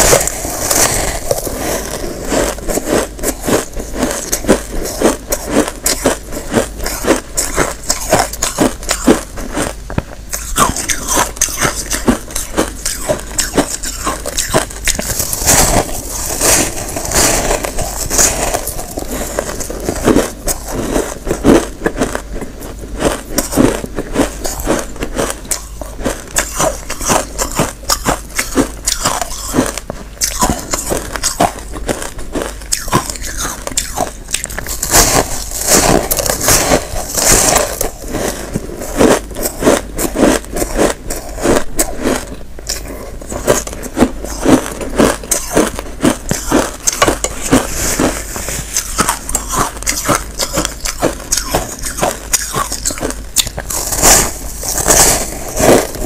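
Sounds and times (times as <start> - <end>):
crunching ice chunks: 0.0 - 56.0.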